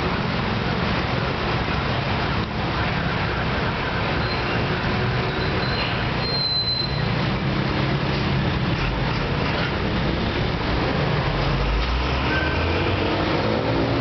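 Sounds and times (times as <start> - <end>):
low rumble of road vehicles: 0.0 - 14.0.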